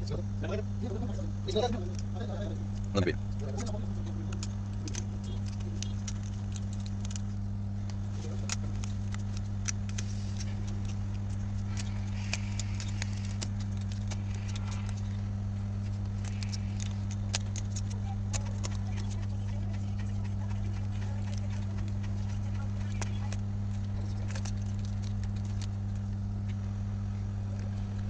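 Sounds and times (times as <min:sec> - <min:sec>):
low electrical hum: 0:00.0 - 0:28.0
clicks of small hard objects: 0:01.5 - 0:26.6.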